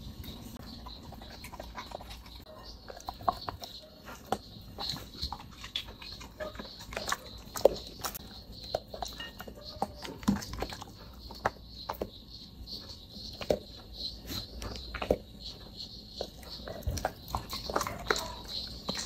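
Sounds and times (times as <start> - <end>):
dog chewing and lip-smacking: 0.0 - 19.0.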